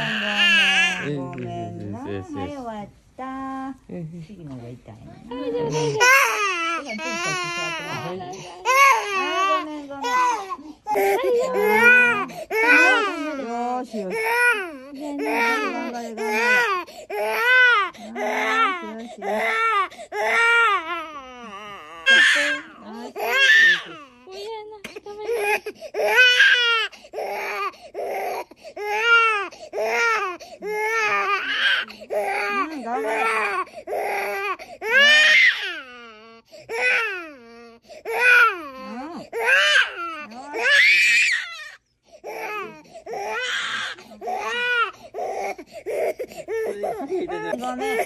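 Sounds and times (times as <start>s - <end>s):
infant crying: 0.0s - 2.5s, 5.6s - 48.0s.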